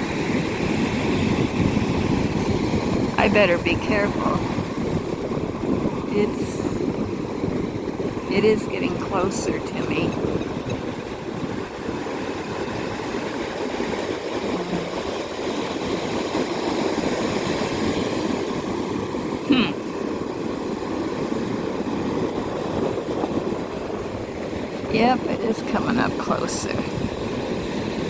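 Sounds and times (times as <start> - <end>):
ocean surf rushing: 0.0 - 28.0
wind rumbling on microphone: 0.0 - 28.0.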